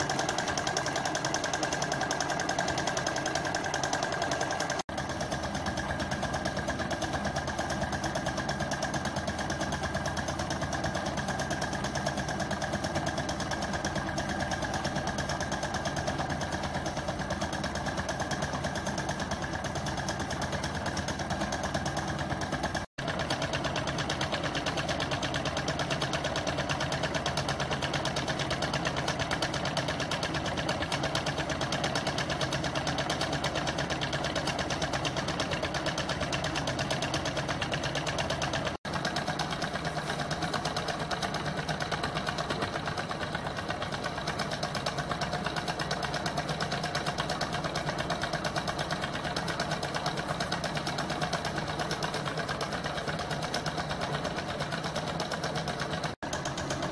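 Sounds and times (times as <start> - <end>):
stirling engine running: 0.0 - 56.9.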